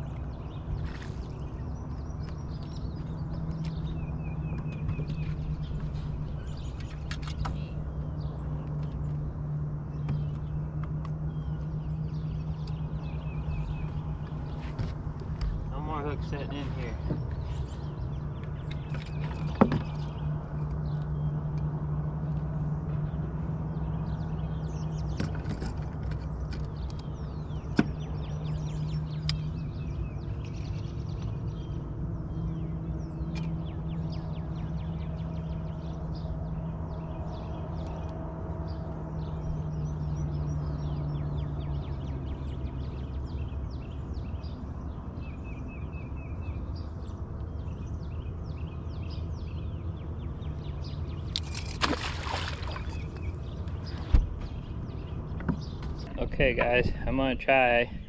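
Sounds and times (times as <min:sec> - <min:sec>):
birds chirping: 0:00.0 - 0:58.0
boat motor humming: 0:00.0 - 0:58.0.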